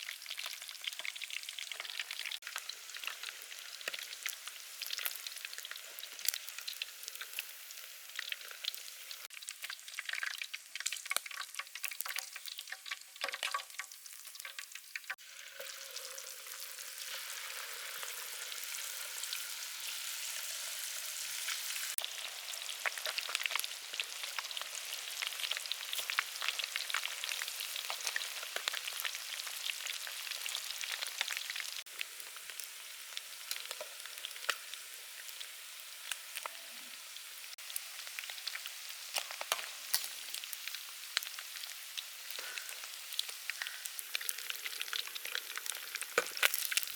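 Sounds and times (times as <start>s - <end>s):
oil sizzling and crackling: 0.0s - 46.9s.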